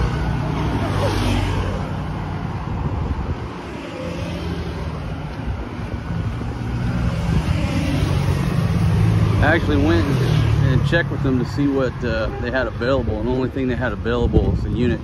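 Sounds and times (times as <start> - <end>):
wind buffeting microphone: 0.0 - 10.0, 12.0 - 15.0
motorbikes and cars passing: 0.0 - 15.0.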